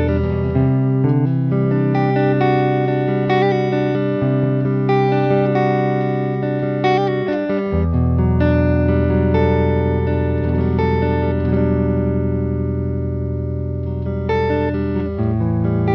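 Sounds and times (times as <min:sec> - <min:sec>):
electric guitar with reverb: 0:00.0 - 0:15.9.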